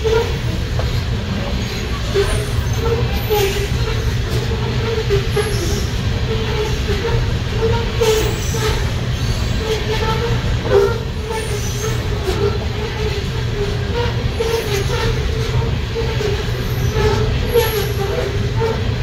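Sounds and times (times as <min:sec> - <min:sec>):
train wheels rumbling on rail: 0:00.0 - 0:19.0
wheel squeal: 0:00.0 - 0:19.0.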